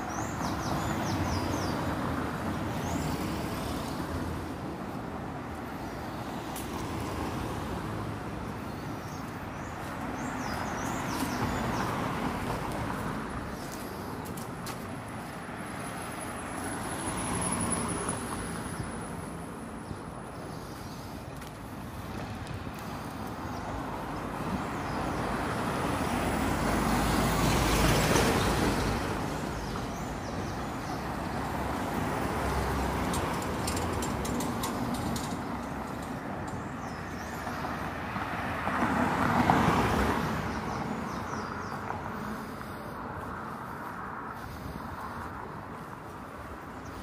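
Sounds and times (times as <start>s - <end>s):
cars passing: 0.0s - 47.0s.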